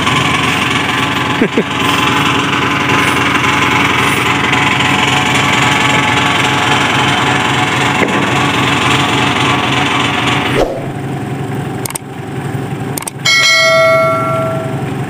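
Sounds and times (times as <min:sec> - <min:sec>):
forklift engine running: 0:00.0 - 0:15.0.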